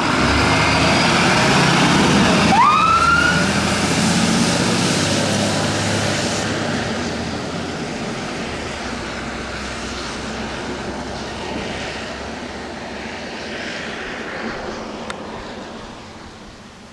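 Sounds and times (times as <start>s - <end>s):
fire engine driving away: 0.0s - 16.9s.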